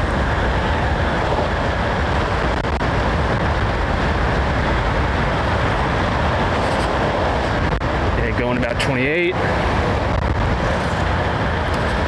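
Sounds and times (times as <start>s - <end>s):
road noise: 0.0s - 12.0s
wind rushing on microphone: 0.0s - 12.0s.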